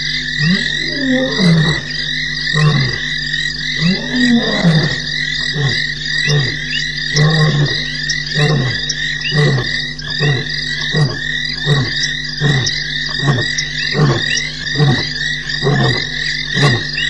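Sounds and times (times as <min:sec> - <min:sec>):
lion roaring: 0:00.4 - 0:03.1, 0:03.8 - 0:17.0.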